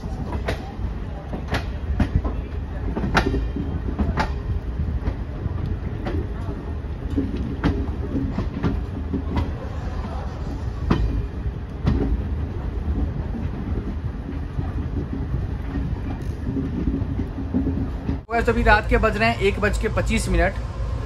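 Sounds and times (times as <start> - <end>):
wheels clacking over rail joints: 0.0 - 20.4
train rumbling: 0.0 - 21.0.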